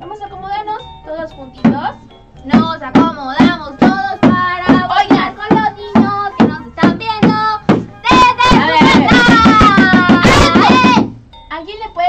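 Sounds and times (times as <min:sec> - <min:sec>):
music with steady beat: 0:01.4 - 0:11.4.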